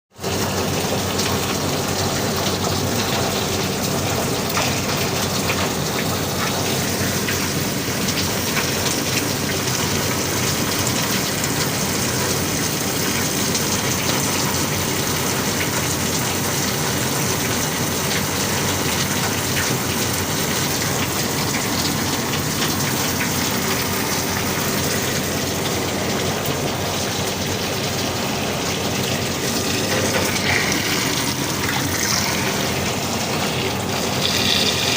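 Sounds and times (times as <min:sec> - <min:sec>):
water spraying on metal unit: 0:00.2 - 0:34.9.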